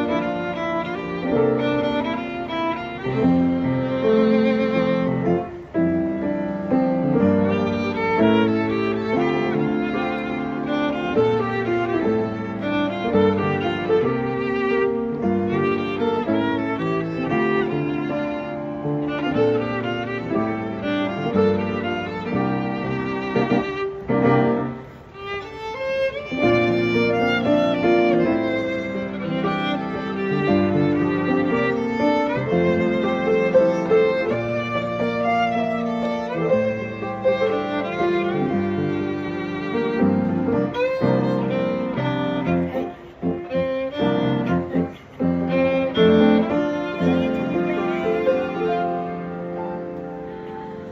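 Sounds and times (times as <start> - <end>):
lower string accompaniment: 0.0 - 50.9
violin melody: 0.0 - 50.9.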